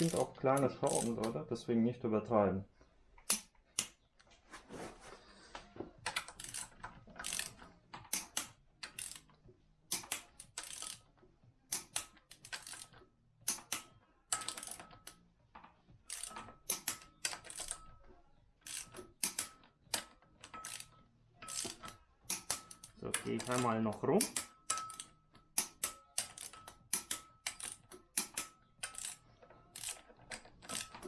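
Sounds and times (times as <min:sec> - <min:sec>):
ratchet wrench clicking: 0:00.0 - 0:01.4, 0:03.2 - 0:04.0, 0:06.0 - 0:11.1, 0:11.7 - 0:15.2, 0:16.1 - 0:18.0, 0:18.6 - 0:31.0.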